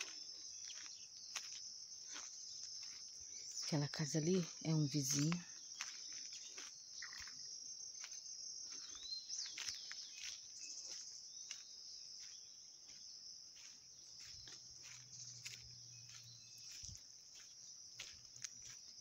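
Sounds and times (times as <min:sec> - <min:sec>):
bird chirp: 0:00.0 - 0:19.0
footsteps on dirt road: 0:00.0 - 0:19.0
insects droning: 0:00.0 - 0:19.0.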